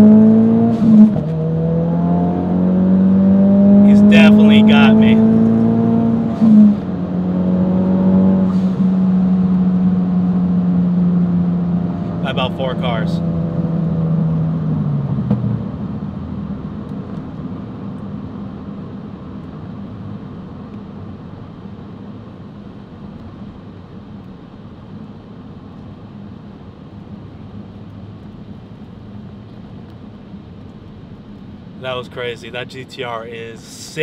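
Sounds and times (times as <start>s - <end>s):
car engine: 0.0s - 34.0s
road and wind noise in car: 0.0s - 34.0s.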